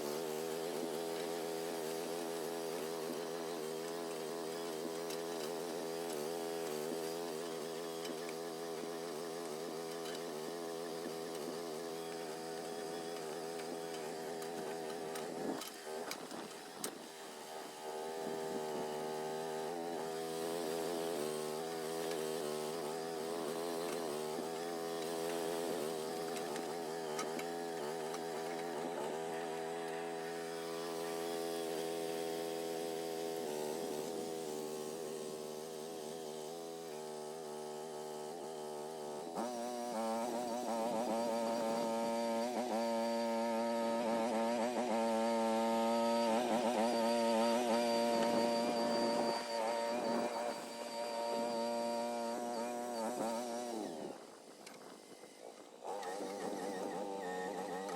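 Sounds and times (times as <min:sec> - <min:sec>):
excavator engine under load: 0:00.0 - 0:35.0, 0:36.6 - 0:57.9.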